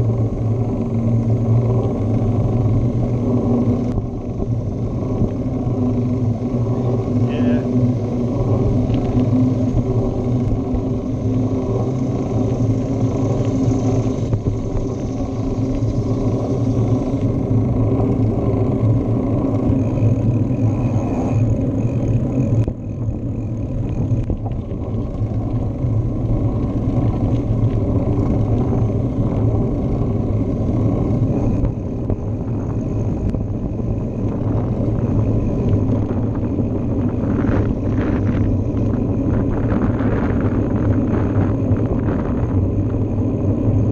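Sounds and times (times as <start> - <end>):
bicycle tyres rolling on asphalt: 0.0 - 43.9
wind rumble on camera: 0.0 - 43.9.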